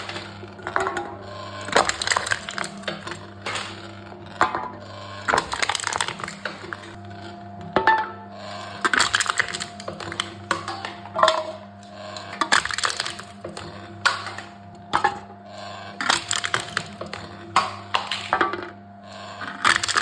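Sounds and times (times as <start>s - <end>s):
machine crushing aluminum cans: 0.0s - 15.3s, 15.9s - 20.0s.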